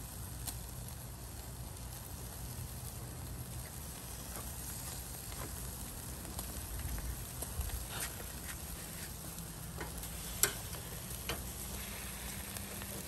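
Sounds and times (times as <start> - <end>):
fat popping on coals: 0.0 - 13.0
meat sizzling on a grill: 0.0 - 13.0.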